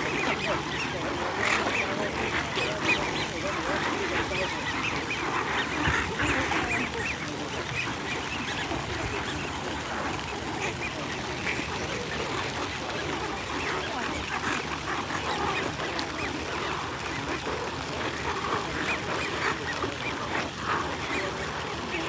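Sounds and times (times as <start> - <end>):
ducks and geese quacking and honking: 0.0 - 22.0.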